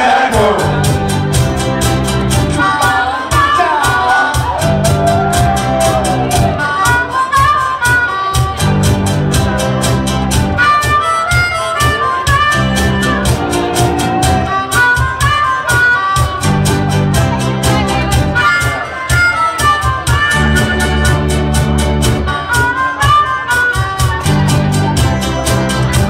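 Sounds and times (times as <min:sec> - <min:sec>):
live band with harmonica: 0:00.0 - 0:26.0.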